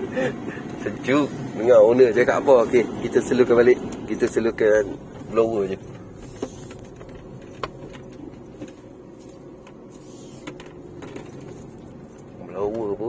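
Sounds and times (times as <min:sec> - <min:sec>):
car cabin hum and hiss: 0:00.0 - 0:13.0.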